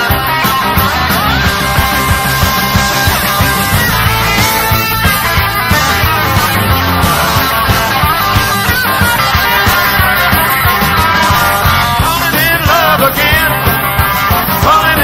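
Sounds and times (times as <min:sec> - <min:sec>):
lead guitar line bending: 0:00.0 - 0:15.0
rock band playing: 0:00.0 - 0:15.0.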